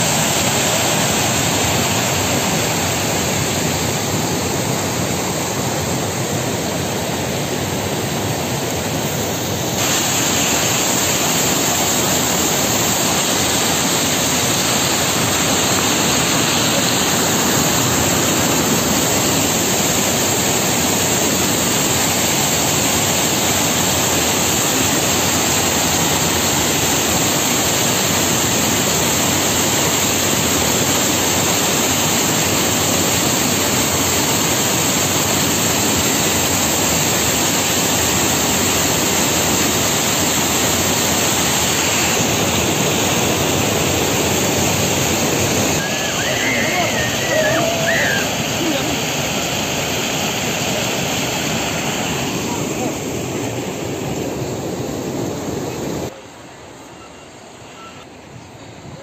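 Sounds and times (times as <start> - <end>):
water rushing over rocks: 0.0 - 56.4.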